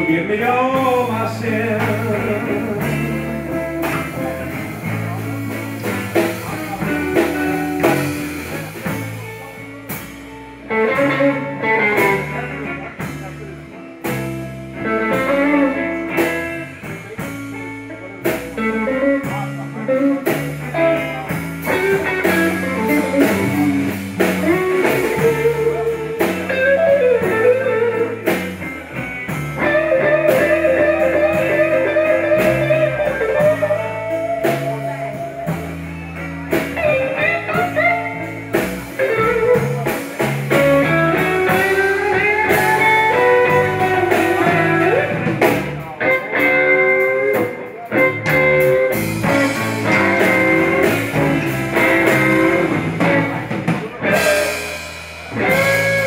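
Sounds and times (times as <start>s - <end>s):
blues-rock band playing: 0.0s - 56.0s
guitar melody with bent notes: 0.0s - 56.0s.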